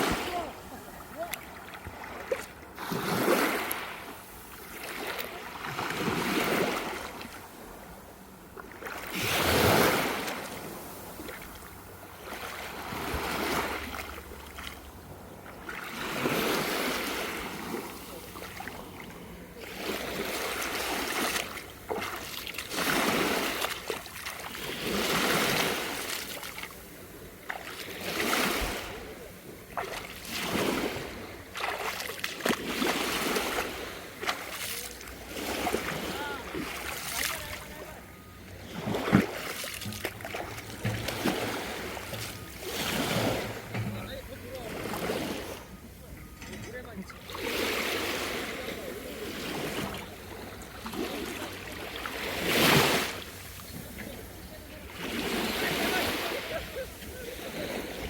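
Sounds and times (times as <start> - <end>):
small waves washing in: 0.0 - 58.0.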